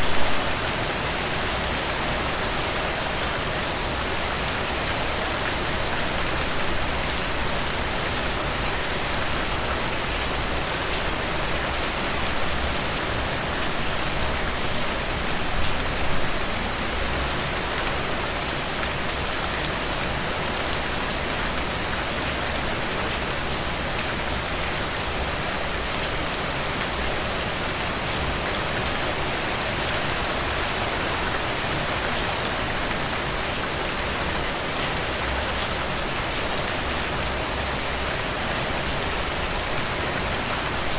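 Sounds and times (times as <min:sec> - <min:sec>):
rain hissing on leaves: 0:00.0 - 0:40.9.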